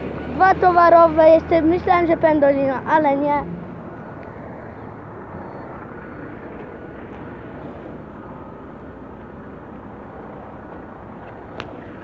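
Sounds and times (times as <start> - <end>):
heavy trucks passing: 0.0 - 12.0
road traffic rumble: 0.0 - 12.0.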